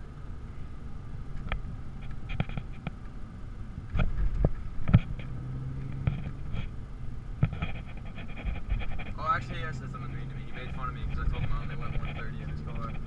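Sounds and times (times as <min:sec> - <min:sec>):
car engine low hum: 0:00.0 - 0:13.0.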